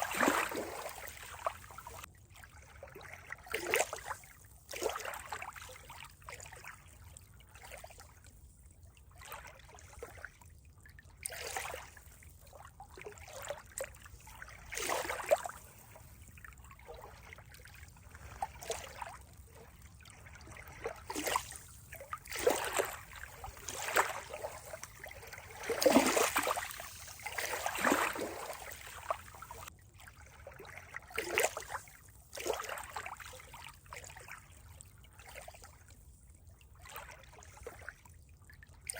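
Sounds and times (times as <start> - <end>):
water trickling and gurgling: 0.0 - 38.9.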